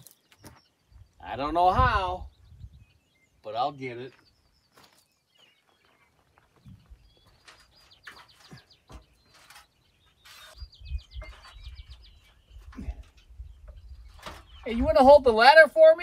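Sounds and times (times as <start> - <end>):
small bird chirping: 2.2 - 15.2.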